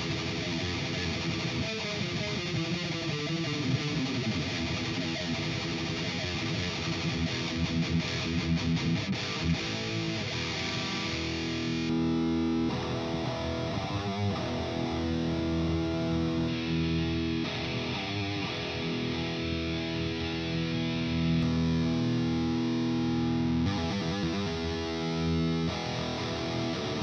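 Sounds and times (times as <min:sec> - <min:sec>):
distorted electric guitar: 0:00.0 - 0:27.0.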